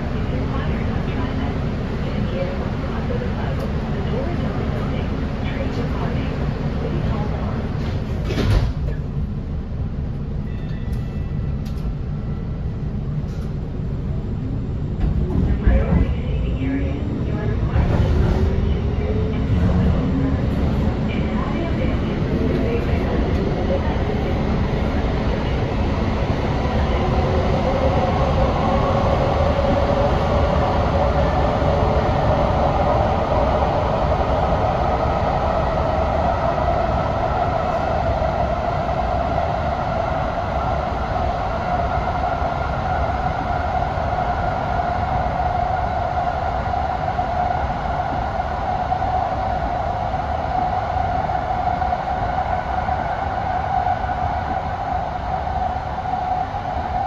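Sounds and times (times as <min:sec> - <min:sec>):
wheels rumbling on rail: 0:00.0 - 0:57.0.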